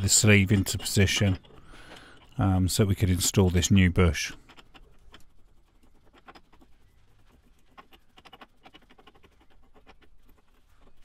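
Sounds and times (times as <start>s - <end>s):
faint clicking and scratching of nut: 0.0s - 11.0s.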